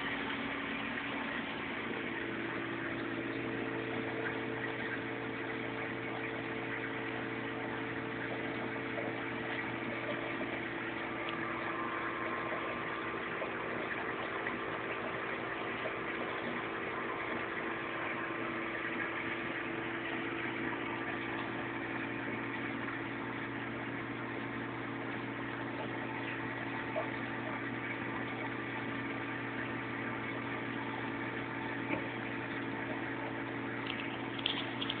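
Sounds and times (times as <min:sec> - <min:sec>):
pump hum: 0:00.0 - 0:35.0.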